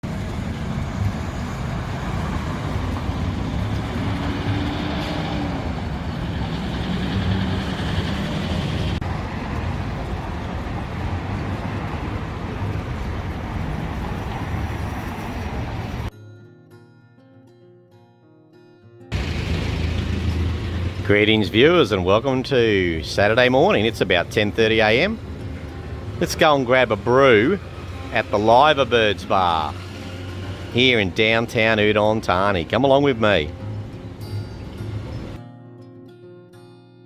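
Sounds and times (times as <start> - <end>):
vehicle engines rumbling: 0.0 - 16.1, 19.1 - 35.4.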